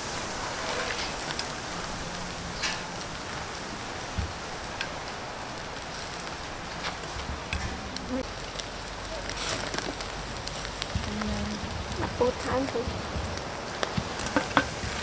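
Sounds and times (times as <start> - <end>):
charcoal grill crackling: 0.0 - 15.0
light rain hissing: 0.0 - 15.0.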